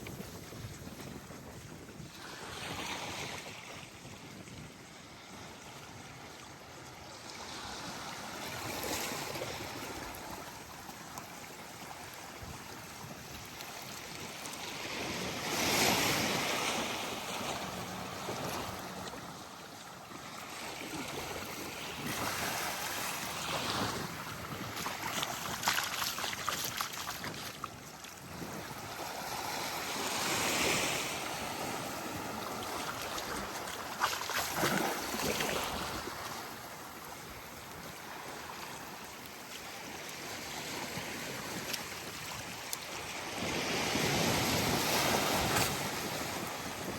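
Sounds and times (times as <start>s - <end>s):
small waves breaking on sand: 0.0s - 46.9s.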